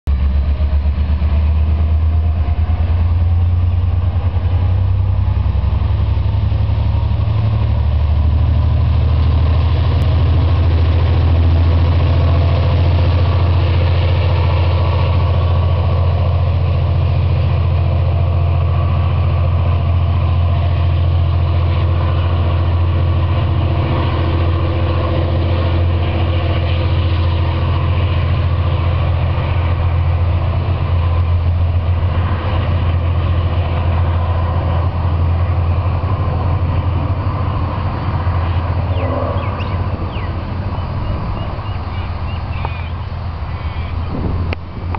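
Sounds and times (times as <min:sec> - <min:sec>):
diesel locomotive engine droning: 0:00.0 - 0:44.9.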